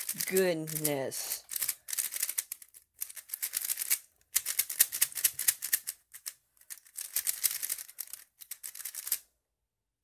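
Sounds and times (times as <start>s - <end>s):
puzzle cube clicking as turned: 0.0s - 9.2s.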